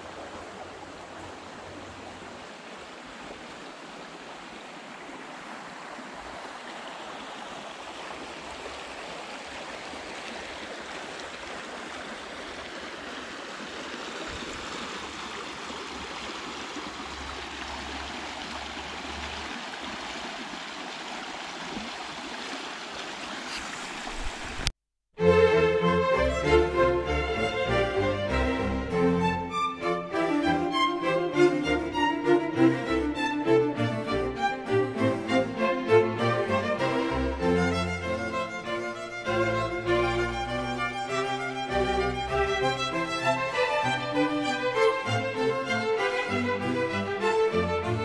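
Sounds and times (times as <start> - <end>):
creek running over stones: 0.0 - 48.0.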